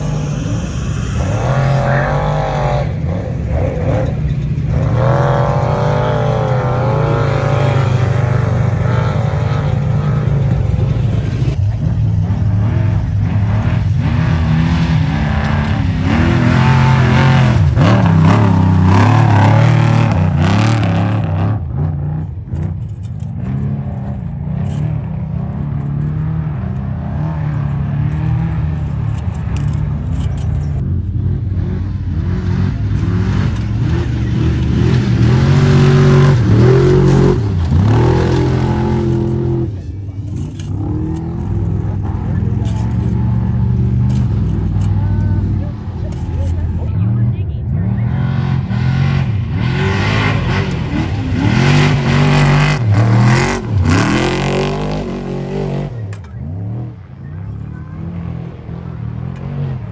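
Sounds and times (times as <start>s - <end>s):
race truck engines revving: 0.0s - 59.9s.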